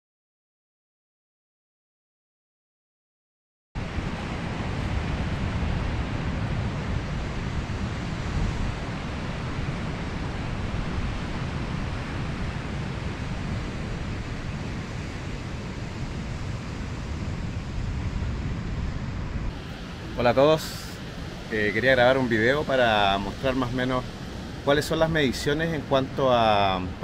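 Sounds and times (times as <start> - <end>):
wind noise on microphone: 3.8 - 27.0.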